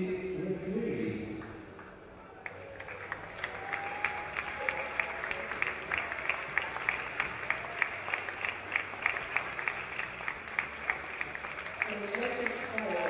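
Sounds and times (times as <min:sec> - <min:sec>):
crowd applauding: 0:01.8 - 0:13.0.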